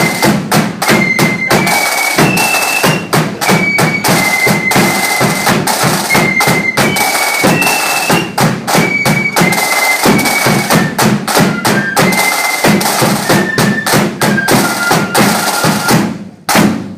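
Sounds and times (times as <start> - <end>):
flutes playing melody: 0.0 - 16.0
snare and bass drumming: 0.0 - 16.9.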